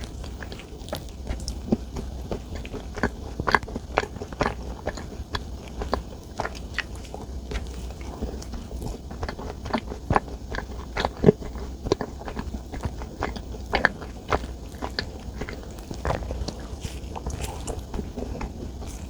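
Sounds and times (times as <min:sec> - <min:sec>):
mouth clicks and smacks: 0:00.0 - 0:19.0
person chewing chocolate: 0:00.0 - 0:19.0.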